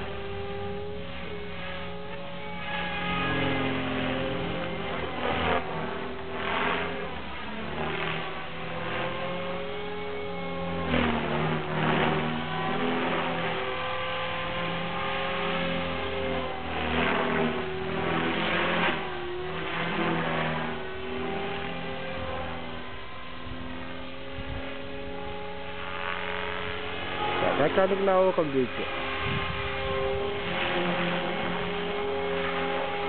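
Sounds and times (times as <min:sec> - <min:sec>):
rc helicopter motor whine: 0:00.0 - 0:33.0
rotor blades whooshing: 0:00.0 - 0:33.0.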